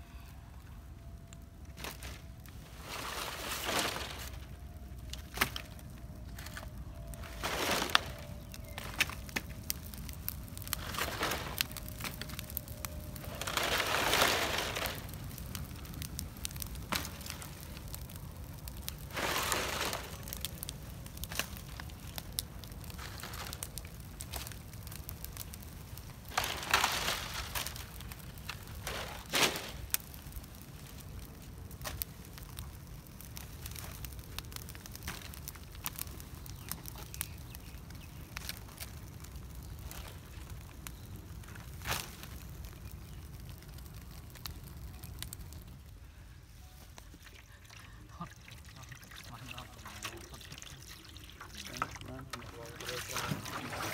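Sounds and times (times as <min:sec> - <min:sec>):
bonfire crackling and popping: 0:00.0 - 0:53.9
dry palm fronds dragged and rustling: 0:01.7 - 0:32.8, 0:33.4 - 0:47.6, 0:49.4 - 0:53.9.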